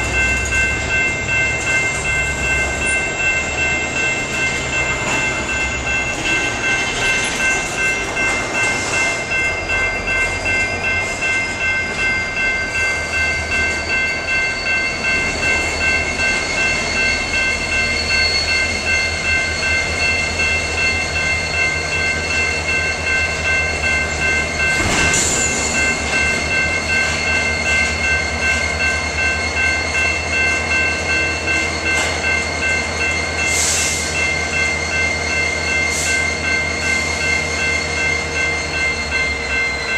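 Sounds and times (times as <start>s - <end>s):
high ringing tones: 0.0s - 39.9s
train wheels clattering on rails: 0.0s - 39.9s.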